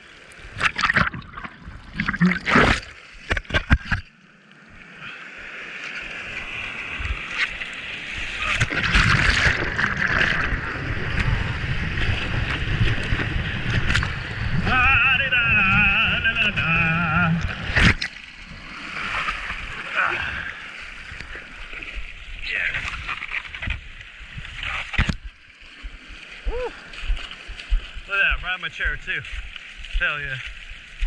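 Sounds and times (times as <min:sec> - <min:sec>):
water splashing: 0:00.0 - 0:31.0.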